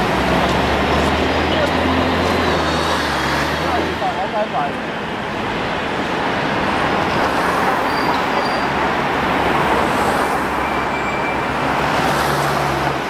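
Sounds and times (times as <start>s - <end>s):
city road traffic noise: 0.0s - 13.0s.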